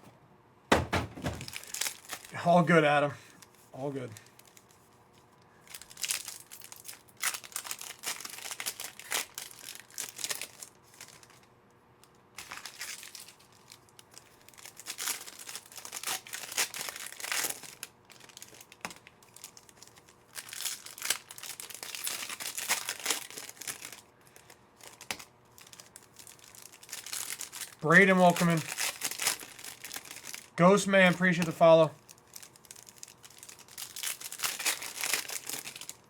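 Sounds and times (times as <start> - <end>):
wrappers crinkling and tearing: 1.2 - 36.0.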